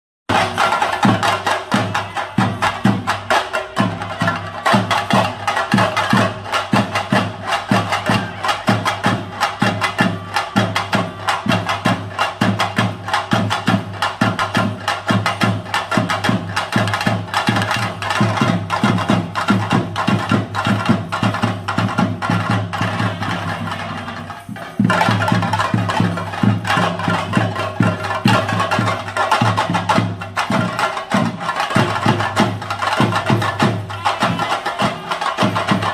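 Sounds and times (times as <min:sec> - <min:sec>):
rapid drumming with sticks: 0:00.3 - 0:35.9.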